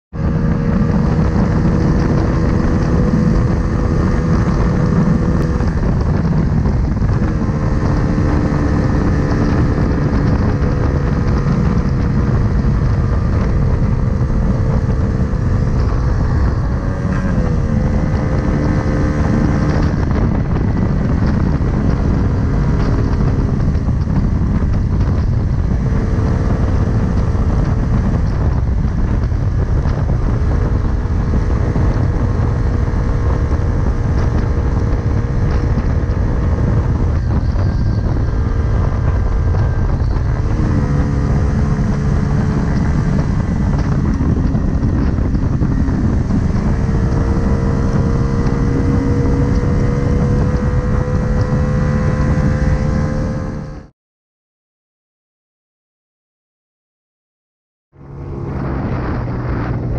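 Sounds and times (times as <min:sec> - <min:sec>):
scooter motor hum: 0:00.1 - 0:53.9, 0:58.0 - 0:59.9
wind buffeting on microphone: 0:00.1 - 0:53.9, 0:57.9 - 0:59.9.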